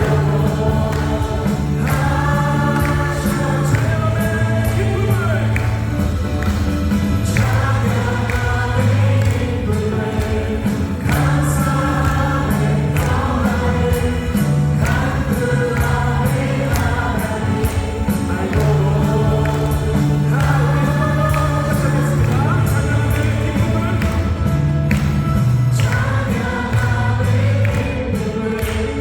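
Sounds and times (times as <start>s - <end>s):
group of vocalists singing: 0.0s - 29.0s
worship band playing: 0.0s - 29.0s.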